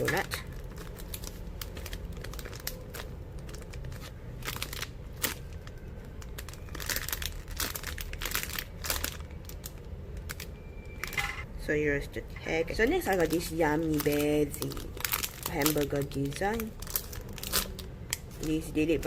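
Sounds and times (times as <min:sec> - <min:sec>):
packaging crinkling and rustling: 0:00.0 - 0:11.2, 0:12.7 - 0:19.0.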